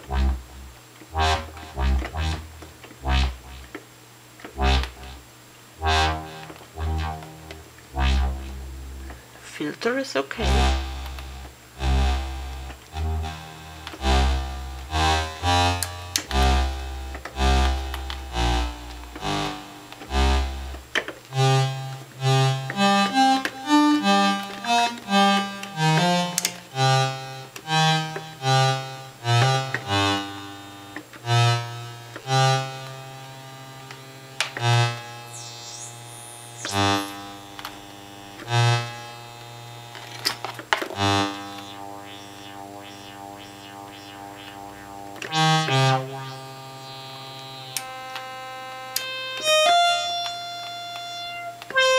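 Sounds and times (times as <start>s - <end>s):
analog synthesizer notes: 0.0s - 9.4s, 10.4s - 51.9s.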